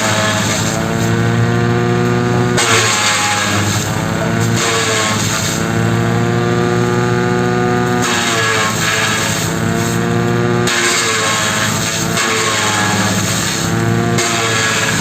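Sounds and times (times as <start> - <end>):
tractor engine driving shredder: 0.0 - 15.0.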